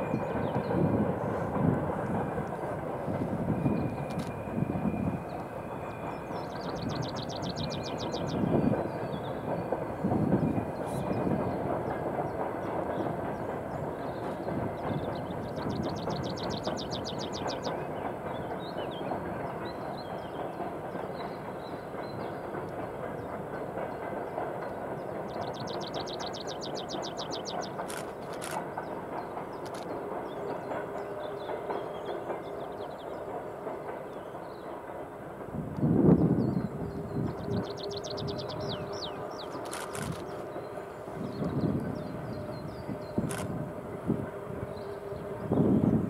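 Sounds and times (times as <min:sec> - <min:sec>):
freight train rumbling on track: 0:00.0 - 0:46.0
rail clatter: 0:00.0 - 0:46.0.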